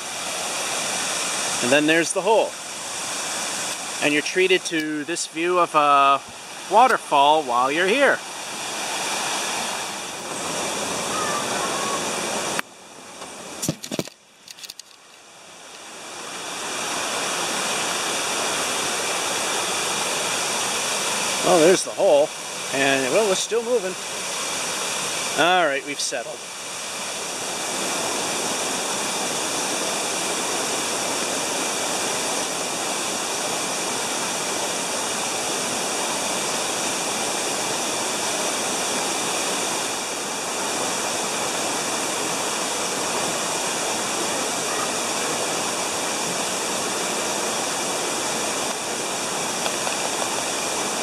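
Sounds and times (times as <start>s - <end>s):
waterfall splashing: 0.0s - 14.1s, 15.3s - 51.0s.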